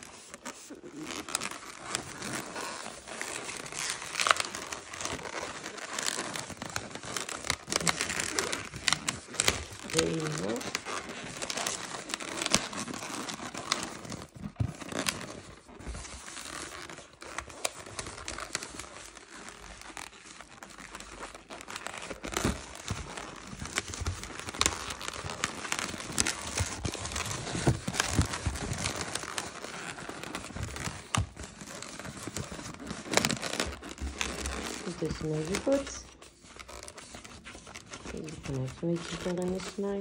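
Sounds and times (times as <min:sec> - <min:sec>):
rubber balloon squeaking: 0:00.0 - 0:40.0.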